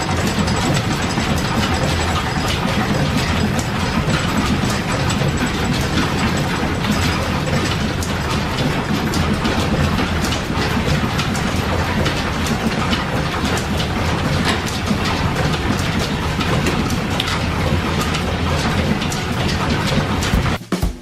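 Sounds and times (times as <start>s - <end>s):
low machinery hum: 0.0s - 20.6s
workshop machinery clattering: 0.0s - 20.6s.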